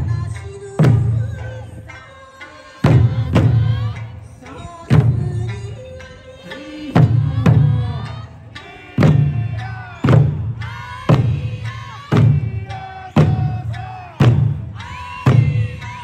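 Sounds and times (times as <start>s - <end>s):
drums struck in unison: 0.0s - 16.0s
folk song with singing: 0.0s - 16.0s.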